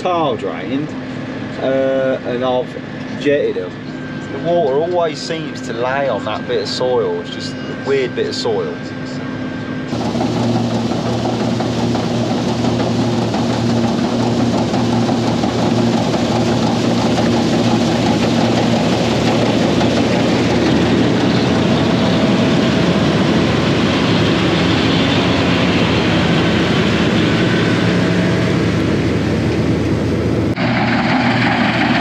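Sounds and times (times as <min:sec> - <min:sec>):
combine harvester running: 0:00.0 - 0:32.0.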